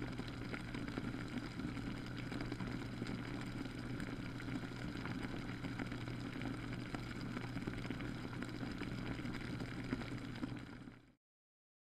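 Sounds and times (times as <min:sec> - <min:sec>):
humidifier humming and hissing: 0:00.0 - 0:11.1.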